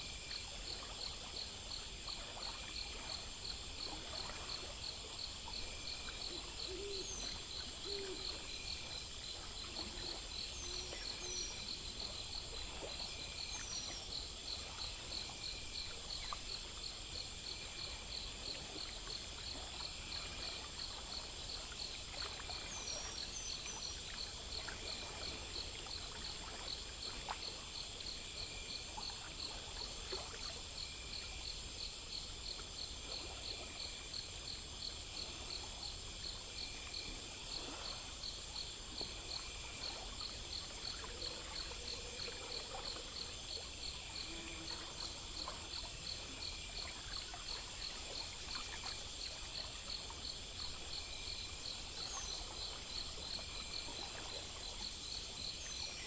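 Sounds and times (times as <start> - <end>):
constant high insect buzz: 0.0 - 56.0
crickets chirping: 0.0 - 56.0.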